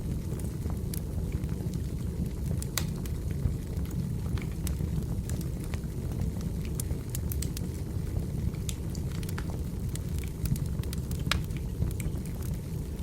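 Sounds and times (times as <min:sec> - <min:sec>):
fire rumbling: 0:00.0 - 0:13.0
logs popping and crackling: 0:00.0 - 0:13.0.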